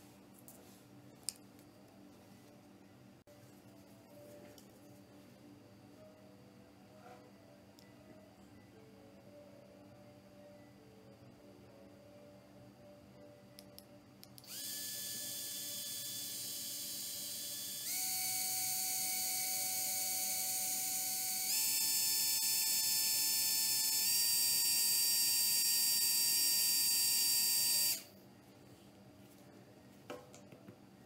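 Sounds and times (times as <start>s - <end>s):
small fan high-pitched whine: 0.0s - 31.0s.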